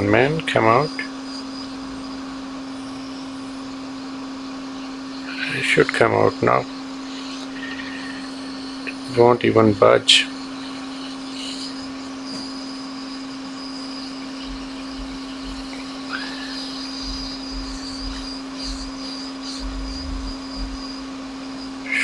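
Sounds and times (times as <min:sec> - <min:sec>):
constant hum: 0:00.0 - 0:22.0
hot air station blowing: 0:00.0 - 0:22.0.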